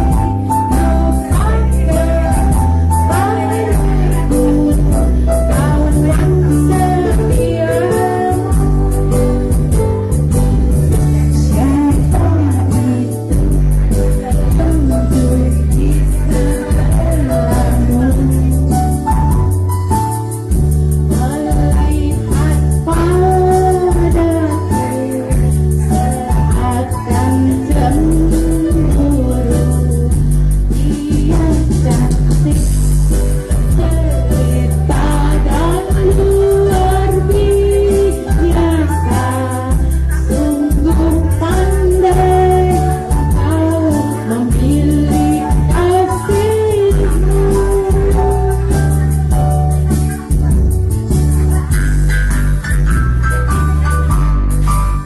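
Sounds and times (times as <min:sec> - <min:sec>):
woman singing into a microphone: 0:00.0 - 0:20.4, 0:21.0 - 0:52.0
karaoke backing music: 0:00.0 - 0:55.0.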